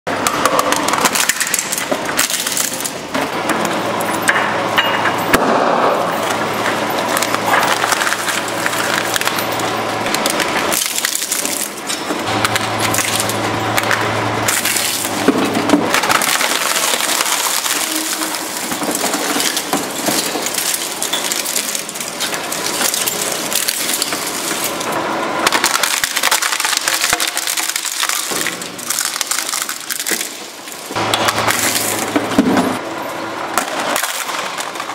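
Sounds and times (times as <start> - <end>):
shredder crushing plastic: 0.1 - 3.8, 5.3 - 32.8, 33.5 - 34.9
low machine hum: 0.1 - 34.9.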